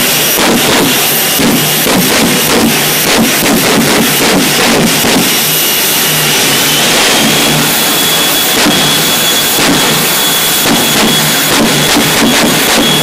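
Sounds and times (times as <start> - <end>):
afterburner pops: 0.0 - 13.0
jet engines roaring: 0.0 - 13.0.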